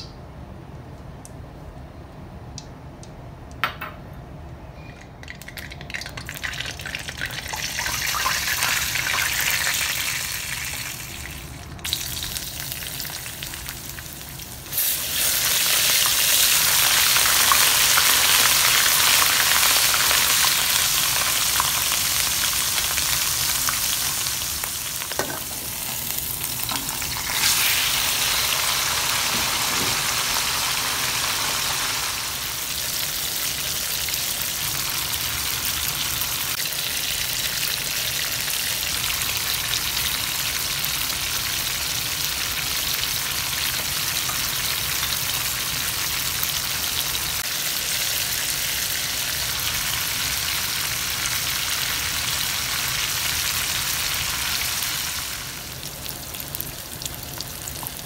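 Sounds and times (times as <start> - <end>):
oil sizzling in a wok: 5.3 - 58.0.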